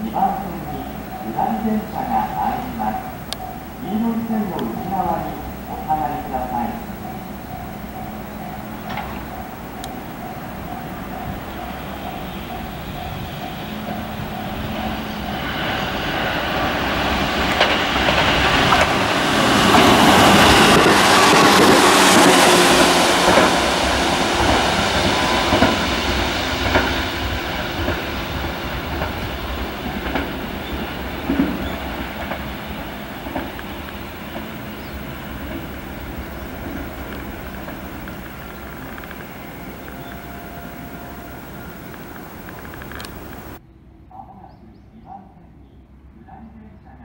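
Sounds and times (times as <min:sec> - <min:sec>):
electric train passing: 0:00.0 - 0:43.6.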